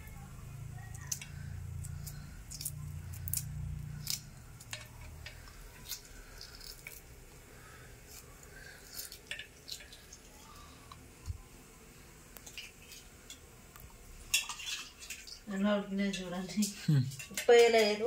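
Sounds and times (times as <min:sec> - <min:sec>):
eggshell crackling: 0:00.8 - 0:18.0.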